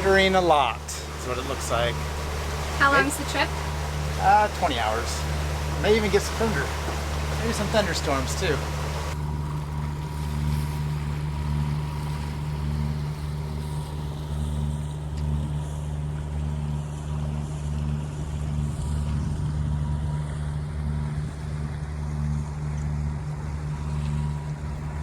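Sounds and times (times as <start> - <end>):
diesel engine droning: 0.0 - 25.0
wind and water hiss: 0.0 - 25.0.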